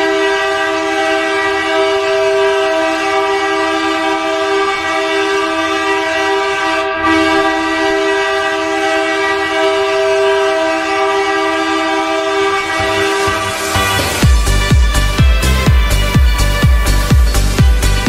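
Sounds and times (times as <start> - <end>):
hockey goal horn blast: 0.0 - 18.0.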